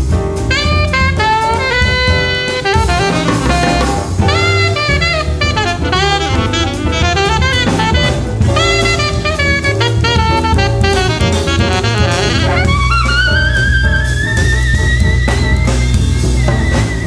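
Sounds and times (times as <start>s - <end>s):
jazz quartet playing samba: 0.0s - 17.0s
saxophone quick runs: 0.5s - 17.0s.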